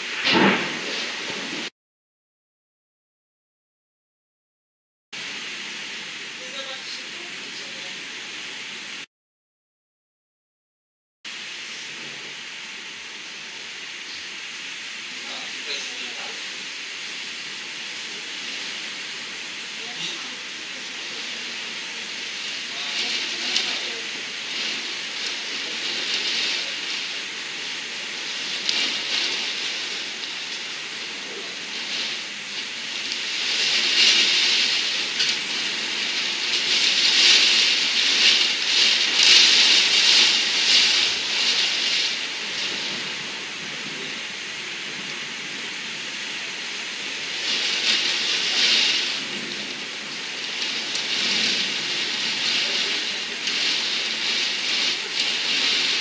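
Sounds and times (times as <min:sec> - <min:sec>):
heavy rain beating on window: 0:00.0 - 0:01.7, 0:05.2 - 0:09.1, 0:11.3 - 0:56.0.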